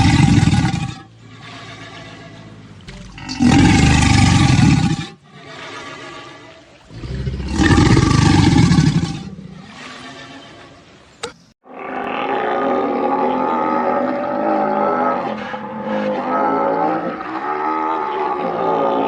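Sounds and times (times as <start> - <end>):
alligator growling: 0.0 - 10.8, 11.7 - 19.0
alligator bellows: 0.0 - 19.0.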